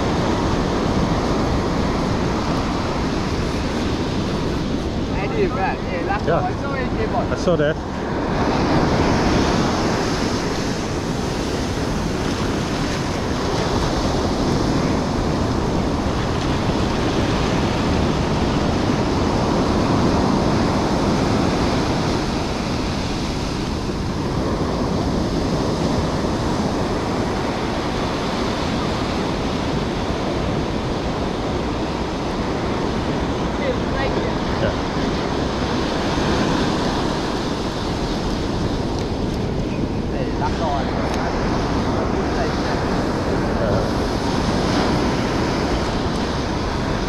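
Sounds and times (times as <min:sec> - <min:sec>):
ocean surf breaking on beach: 0:00.0 - 0:47.0
wind buffeting microphone: 0:00.0 - 0:47.0.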